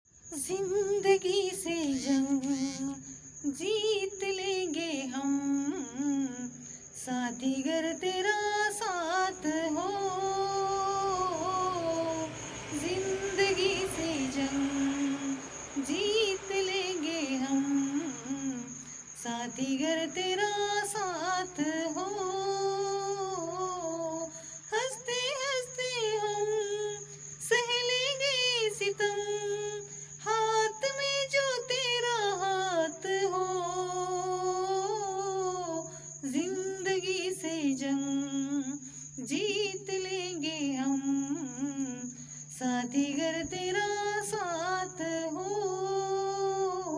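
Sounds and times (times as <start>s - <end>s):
faint high whine: 0.1s - 46.9s
woman singing without words: 0.3s - 46.9s.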